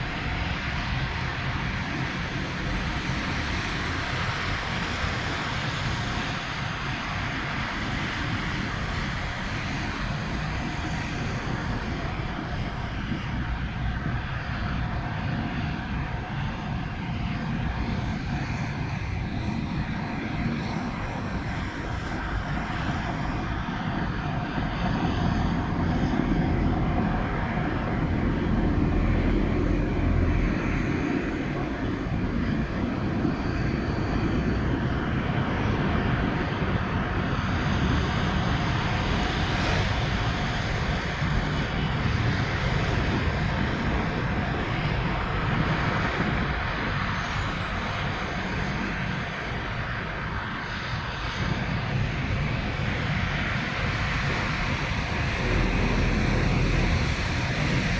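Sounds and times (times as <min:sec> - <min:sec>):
blizzard wind buffeting microphone: 0:00.0 - 0:57.9.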